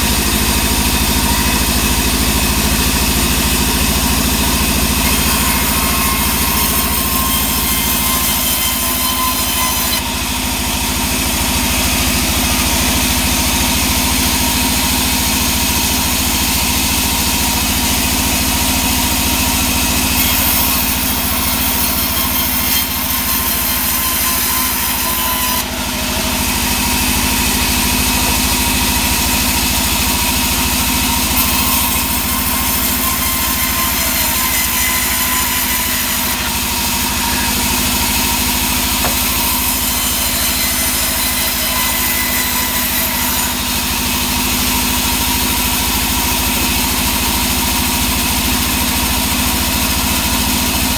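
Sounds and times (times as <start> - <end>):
sawmill machine drone: 0.0 - 50.9.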